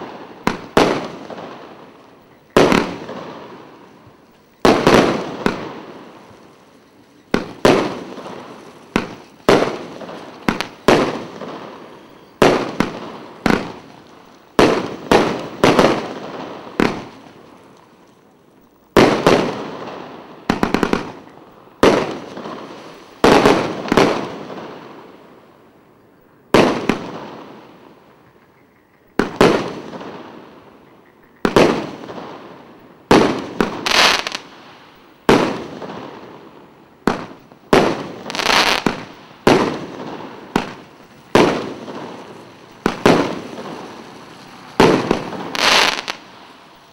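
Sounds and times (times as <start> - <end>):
fireworks bangs: 0.0 - 25.8, 26.5 - 46.9.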